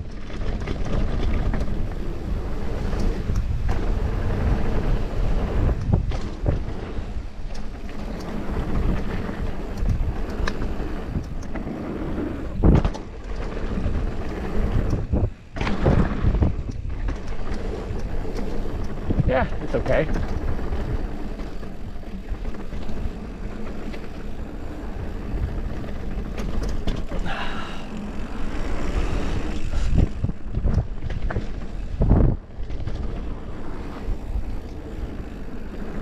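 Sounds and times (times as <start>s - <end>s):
bike rattling and clicking: 0.0s - 36.0s
tyres rumbling over dirt: 0.0s - 36.0s
wind buffeting microphone: 0.0s - 36.0s.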